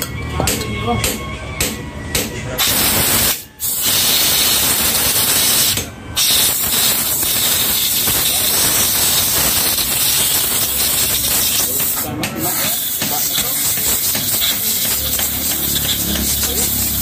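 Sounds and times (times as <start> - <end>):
compressed air blow gun hissing: 2.6 - 17.0.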